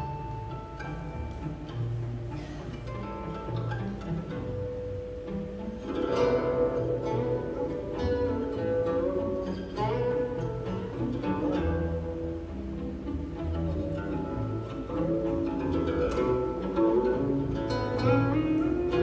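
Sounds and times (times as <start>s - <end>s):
low bass notes: 0.0s - 19.0s
plucked zither notes: 0.0s - 19.0s.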